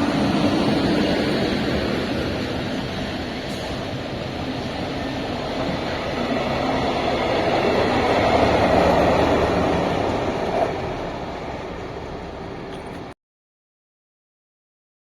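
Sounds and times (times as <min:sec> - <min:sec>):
train wheels rumbling on rails: 0:00.0 - 0:13.2.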